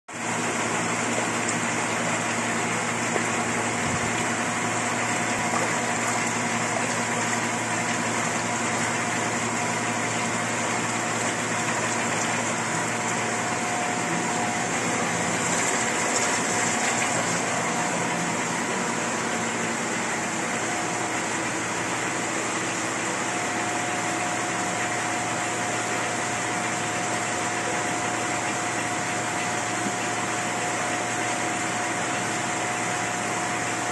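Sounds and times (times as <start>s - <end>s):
machine motor hum: 0.2s - 33.9s.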